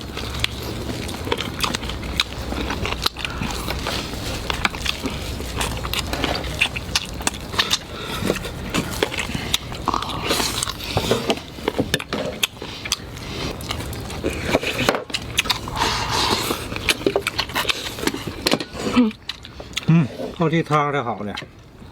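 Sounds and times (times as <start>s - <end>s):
person chewing crunchy bones: 0.0s - 20.4s.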